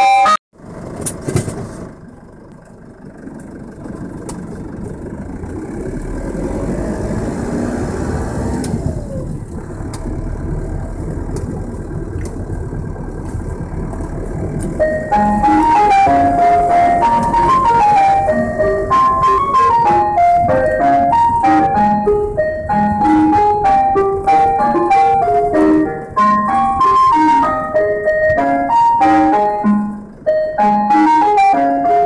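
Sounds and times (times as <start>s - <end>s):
van engine running: 0.5s - 32.0s
clunks: 0.6s - 6.8s, 8.4s - 32.0s.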